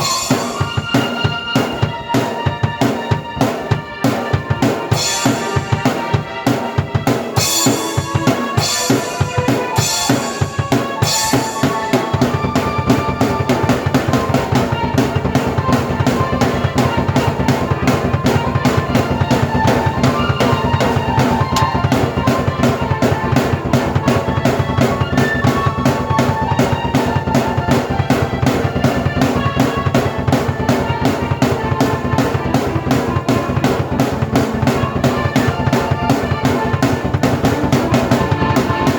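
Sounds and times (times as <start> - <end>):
drum kit playing fast beat: 0.0 - 38.9
keyboard held notes: 0.0 - 38.9.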